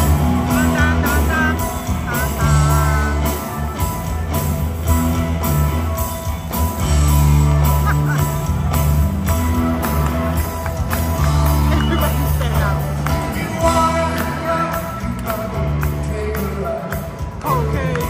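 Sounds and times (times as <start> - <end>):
electric guitar bent lead notes: 0.0 - 16.0
bass notes: 0.0 - 18.0
drum beat: 0.0 - 18.0.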